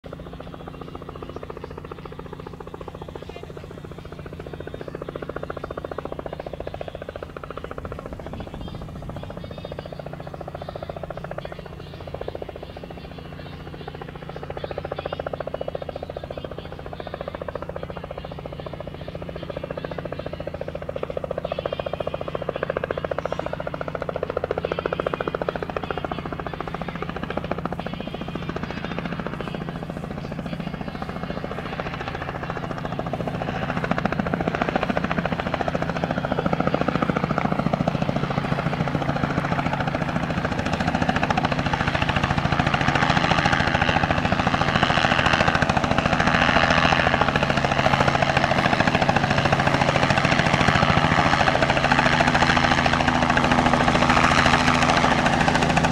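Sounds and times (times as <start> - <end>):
helicopter engine and rotor drone: 0.0 - 55.9.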